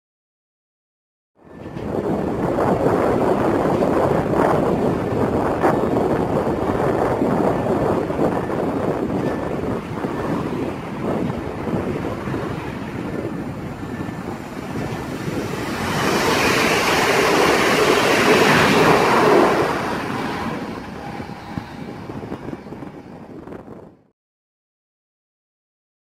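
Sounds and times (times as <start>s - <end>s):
train passing at speed: 1.4s - 24.1s
wind buffeting microphone: 1.4s - 24.1s.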